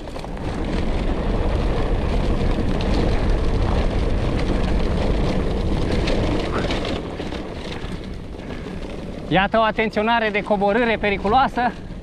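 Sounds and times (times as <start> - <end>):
bike rattling: 0.0 - 12.0
bike tyres rumbling on dirt: 0.0 - 12.0.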